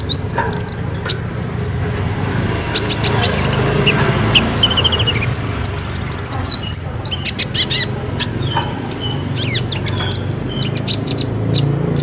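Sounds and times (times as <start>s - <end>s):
bird singing high chirps and trills: 0.0s - 1.3s, 2.4s - 12.0s.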